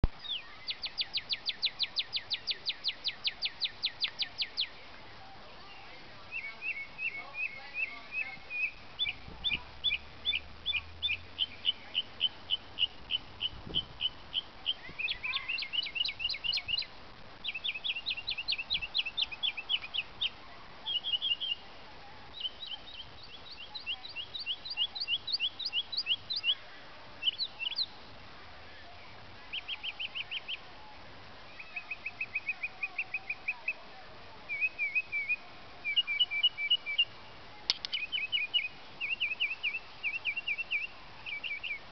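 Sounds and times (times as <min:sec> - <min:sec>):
mockingbird singing: 0:00.1 - 0:04.8, 0:05.7 - 0:21.7, 0:22.3 - 0:28.0, 0:29.4 - 0:30.7, 0:31.5 - 0:33.8, 0:34.5 - 0:41.9.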